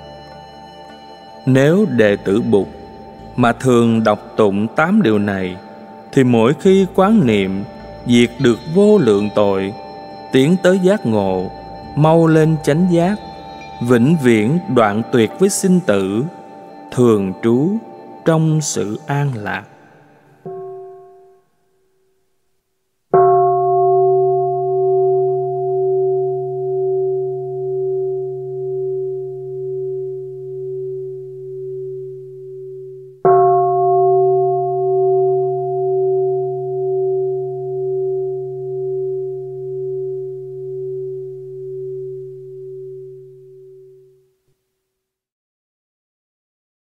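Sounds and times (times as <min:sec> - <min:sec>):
bowl bell ringing: 0:00.0 - 0:21.6, 0:23.2 - 0:44.2.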